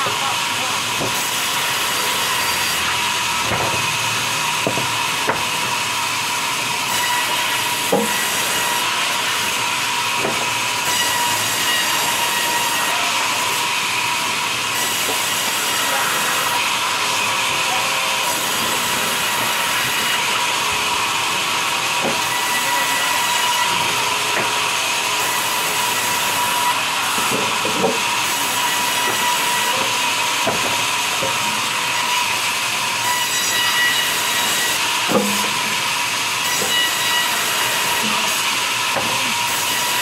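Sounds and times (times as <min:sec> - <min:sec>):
band saw whining and cutting: 0:00.0 - 0:40.0.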